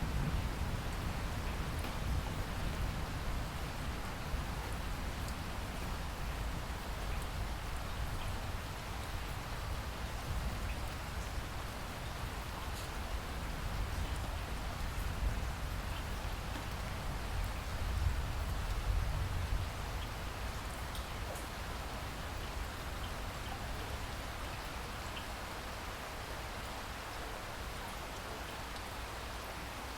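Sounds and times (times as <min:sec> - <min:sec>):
rain falling: 0:00.0 - 0:29.9.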